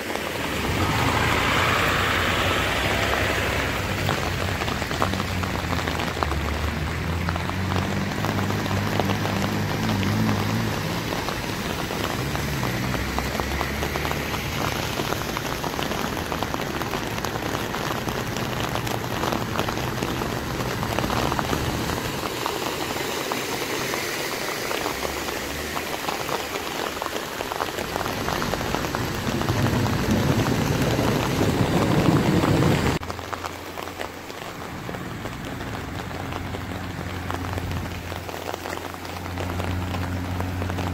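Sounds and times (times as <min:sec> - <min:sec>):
cars driving through floodwater: 0:00.0 - 0:40.9
heavy rain pouring: 0:00.0 - 0:40.9.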